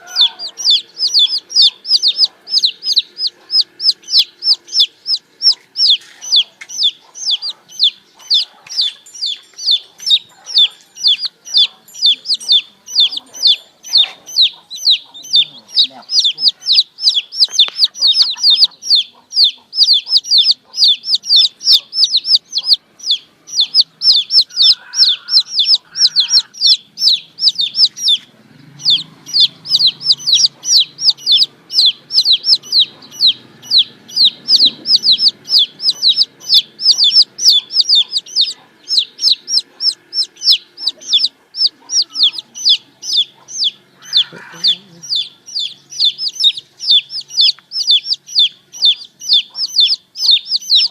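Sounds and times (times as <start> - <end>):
baby chicks peeping: 0.0 - 50.9.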